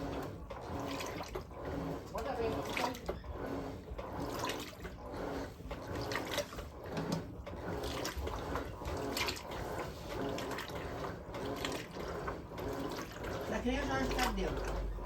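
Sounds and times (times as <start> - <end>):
water sloshing in washing machine: 0.0 - 15.0.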